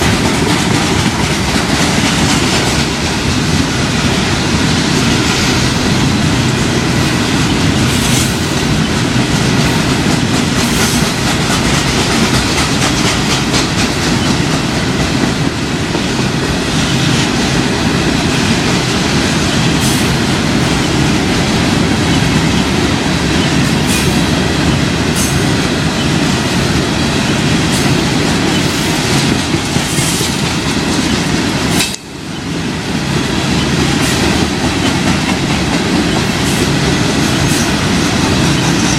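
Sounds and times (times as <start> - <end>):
train wheels rumbling on rail: 0.0 - 38.9
wheels clickety-clack over joints: 0.0 - 38.9.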